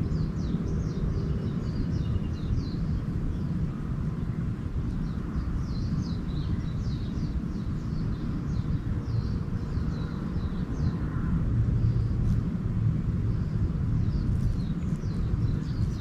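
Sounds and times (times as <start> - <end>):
small birds chirping: 0.0 - 12.5, 13.2 - 16.0
low outdoor rumble: 0.0 - 16.0.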